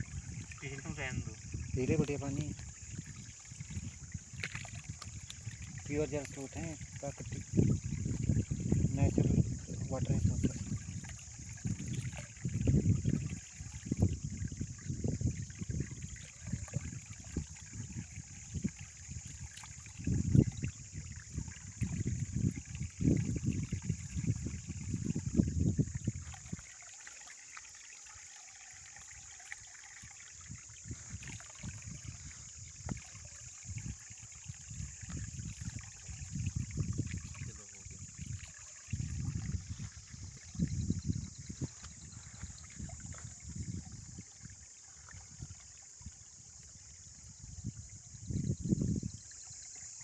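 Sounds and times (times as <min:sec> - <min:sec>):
water trickling: 0:00.0 - 0:50.0.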